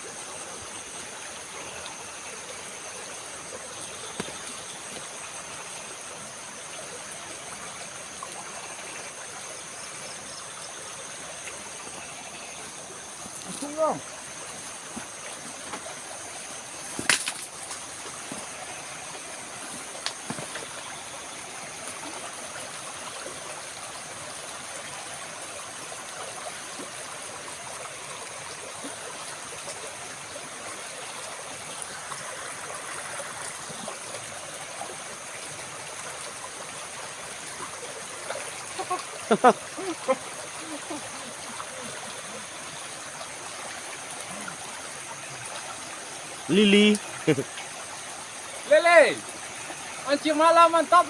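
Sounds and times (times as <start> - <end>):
flowing stream water: 0.0 - 51.0.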